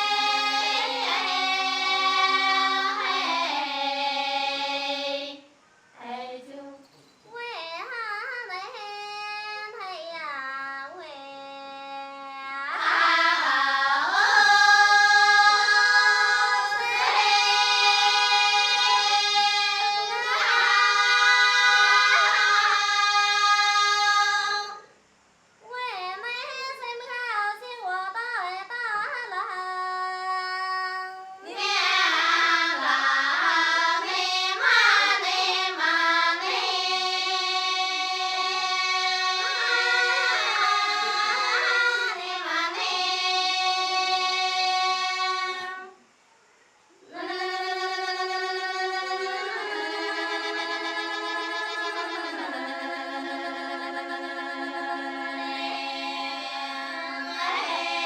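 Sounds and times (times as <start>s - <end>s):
women's choir singing unaccompanied: 0.0s - 6.8s, 11.8s - 25.1s, 26.2s - 46.0s, 47.0s - 58.0s.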